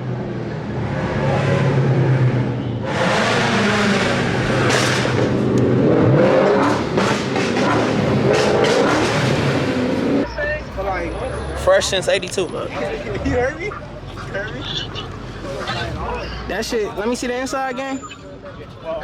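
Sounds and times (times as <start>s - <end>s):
car engine revving: 0.0s - 16.8s
harsh exhaust rush: 0.0s - 18.4s.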